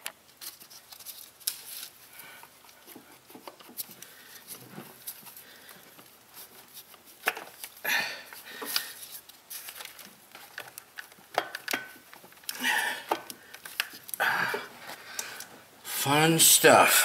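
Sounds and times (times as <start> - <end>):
wiring rustling: 0.0 - 15.7.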